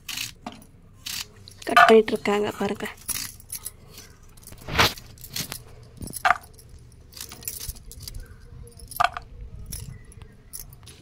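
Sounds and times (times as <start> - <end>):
bangles clinking: 0.0 - 2.1, 2.8 - 11.0.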